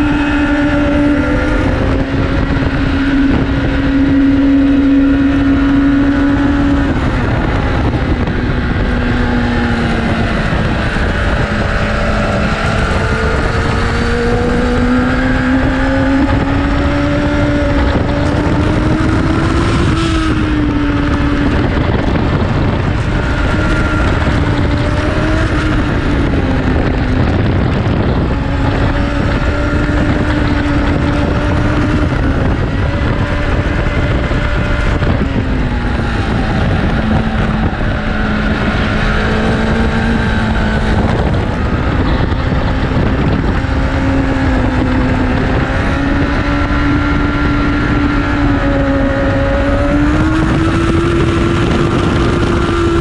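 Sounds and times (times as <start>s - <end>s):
motorcycle engine revving: 0.0s - 53.0s
wind rush on microphone: 0.0s - 53.0s.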